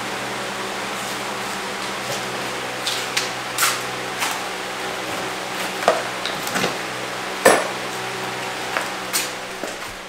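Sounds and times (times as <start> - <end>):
workshop fan hum: 0.0 - 10.0
footsteps on concrete floor: 0.9 - 6.8, 7.5 - 10.0.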